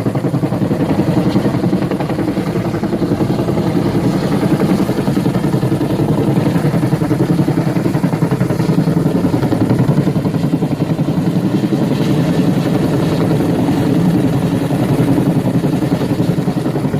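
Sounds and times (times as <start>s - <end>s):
helicopter rotor beating: 0.0s - 16.9s.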